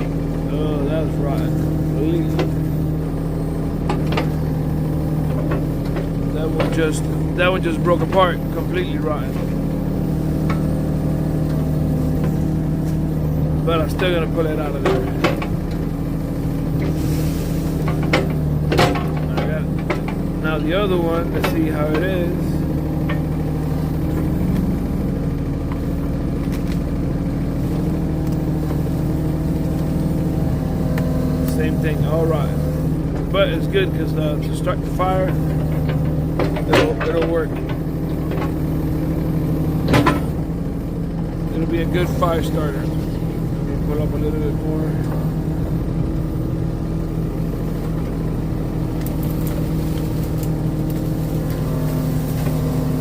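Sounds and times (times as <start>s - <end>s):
excavator engine running: 0.0s - 53.0s
higher engine tone: 0.0s - 53.0s.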